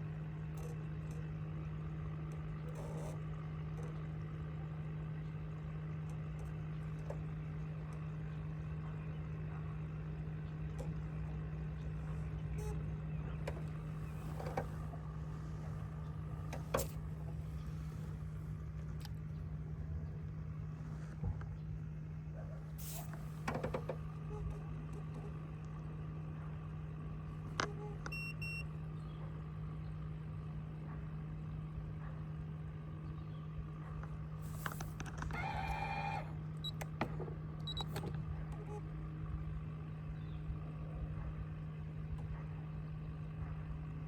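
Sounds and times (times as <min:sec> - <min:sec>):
boat motor running: 0:00.0 - 0:44.0.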